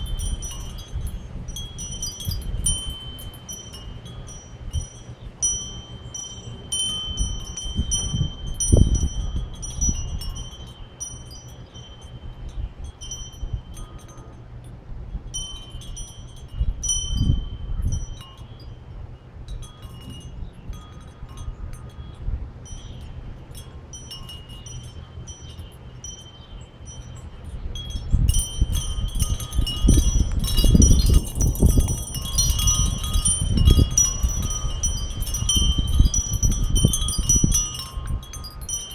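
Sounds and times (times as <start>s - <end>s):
wind chimes ringing: 0.0s - 14.7s, 15.3s - 38.9s
wind gusts on microphone: 0.0s - 38.9s.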